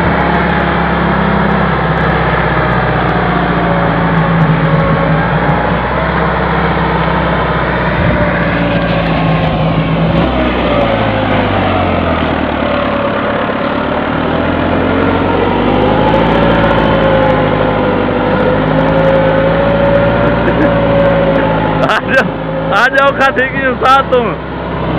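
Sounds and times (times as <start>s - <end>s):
tractor diesel engine straining: 0.0s - 24.9s.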